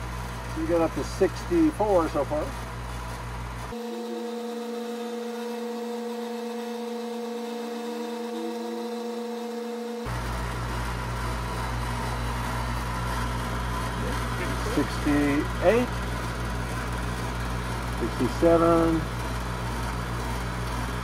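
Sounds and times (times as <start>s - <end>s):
air conditioner unit humming: 0.0s - 9.3s, 10.1s - 21.0s.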